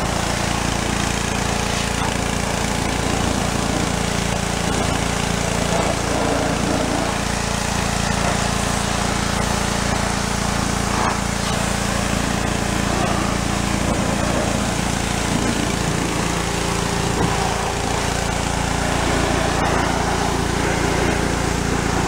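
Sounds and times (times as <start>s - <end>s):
small engine droning: 0.0s - 22.0s
water jet hissing on hull: 0.0s - 22.0s.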